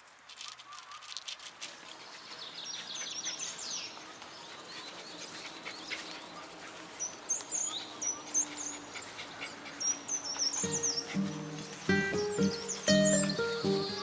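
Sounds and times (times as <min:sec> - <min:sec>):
wild birds chirping: 0:00.5 - 0:14.0.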